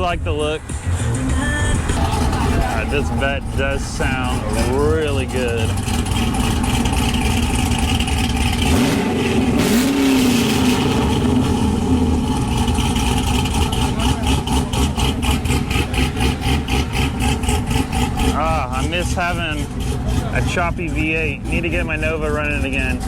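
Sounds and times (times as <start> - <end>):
car engine choppy idle: 0.0 - 23.0.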